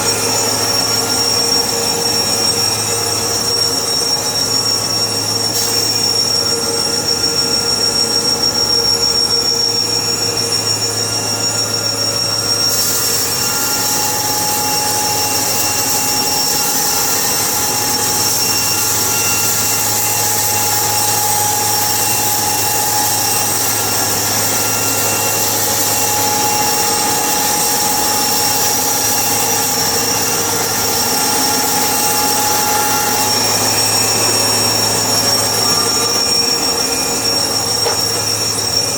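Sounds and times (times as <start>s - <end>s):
sawmill saw whining: 0.0s - 38.9s.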